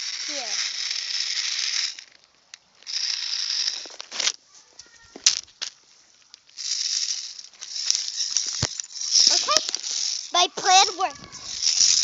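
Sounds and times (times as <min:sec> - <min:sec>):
toy hissing rattle: 0:00.0 - 0:12.0.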